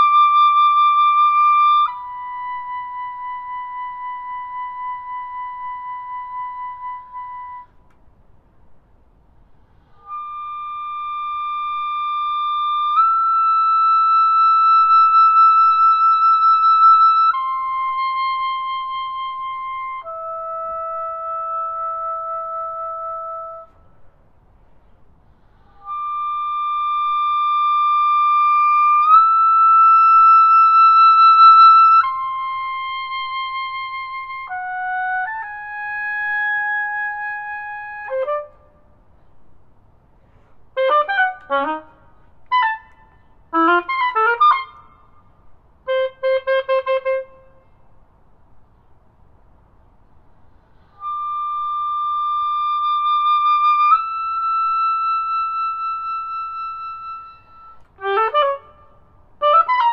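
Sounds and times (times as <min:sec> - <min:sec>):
solo oboe playing: 0:00.0 - 0:08.0, 0:09.4 - 0:24.2, 0:25.1 - 0:39.3, 0:40.7 - 0:47.9, 0:50.5 - 0:59.9.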